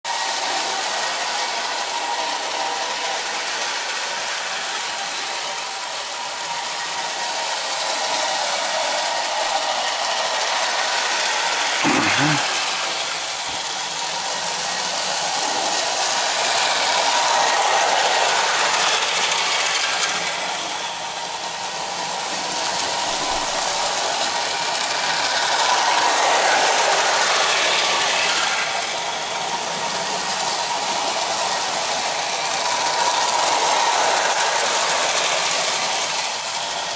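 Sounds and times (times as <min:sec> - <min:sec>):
toy train motor whirring: 0:00.1 - 0:36.9
wheels rattling on rails: 0:06.9 - 0:36.9.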